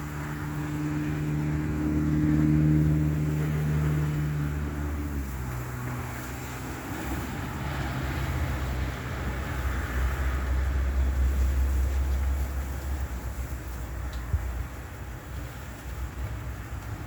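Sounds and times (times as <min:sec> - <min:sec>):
large vehicle engine running: 0:00.0 - 0:17.0.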